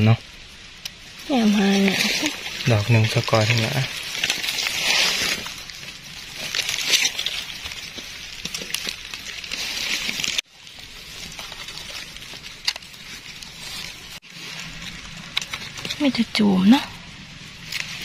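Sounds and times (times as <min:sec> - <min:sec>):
dry leaves rustling and crunching: 0:01.0 - 0:18.0.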